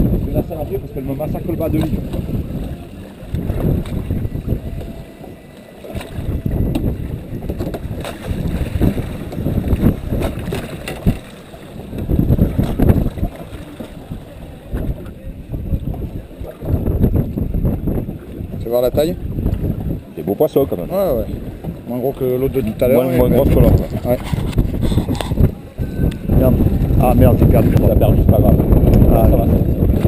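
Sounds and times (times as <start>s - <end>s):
water slapping boat hull: 0.0s - 30.0s
wind buffeting microphone: 0.0s - 30.0s.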